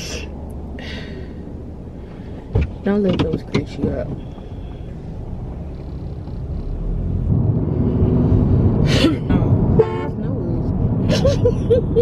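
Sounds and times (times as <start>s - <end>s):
car engine rumbling: 0.0s - 12.0s
road noise inside car: 0.0s - 12.0s.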